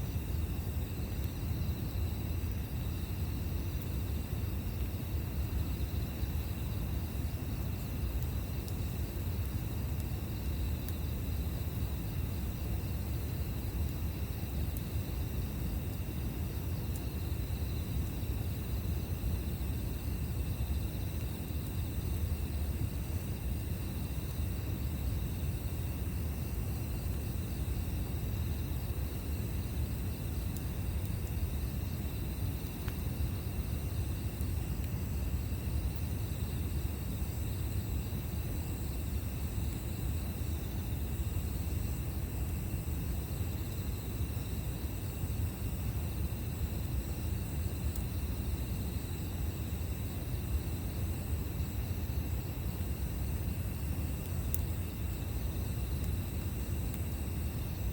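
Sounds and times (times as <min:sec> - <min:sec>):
insects calling: 0:00.0 - 0:57.9.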